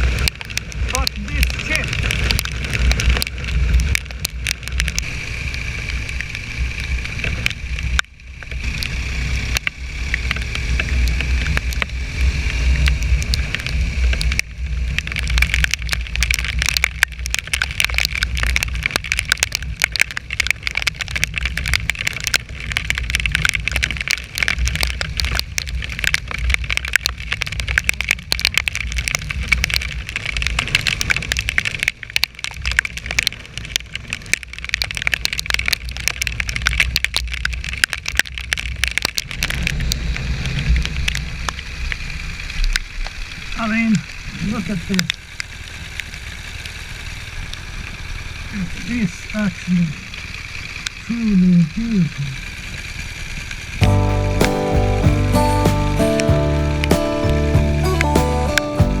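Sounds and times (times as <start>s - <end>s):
motorcycle engine running: 0.0s - 34.5s, 39.0s - 59.0s.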